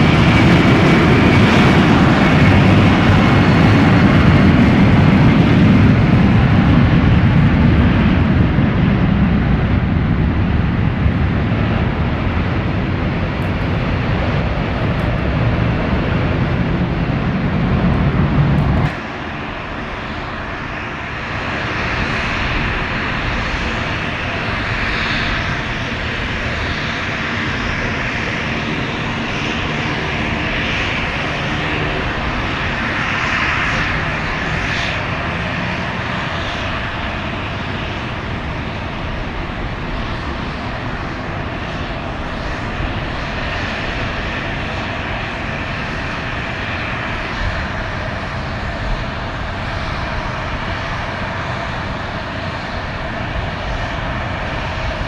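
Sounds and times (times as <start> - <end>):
airliner engine rumble: 0.0 - 55.0
jet engine whine and rush: 0.0 - 55.0.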